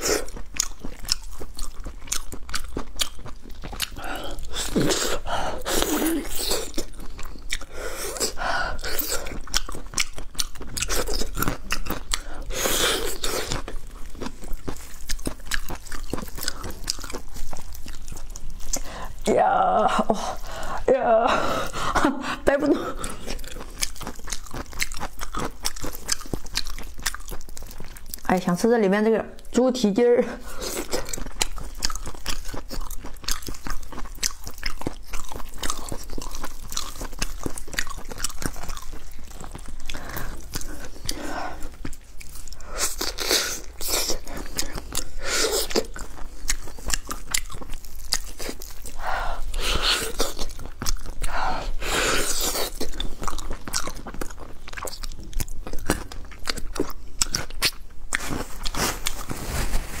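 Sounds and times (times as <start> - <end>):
chewing and biting meat: 0.0 - 19.3, 21.6 - 28.3, 30.4 - 60.0.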